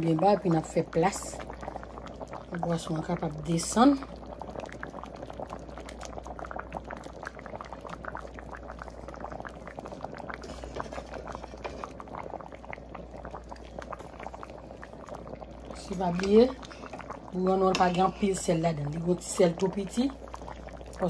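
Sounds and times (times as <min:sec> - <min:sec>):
broth bubbling in a pot: 0:00.0 - 0:21.0.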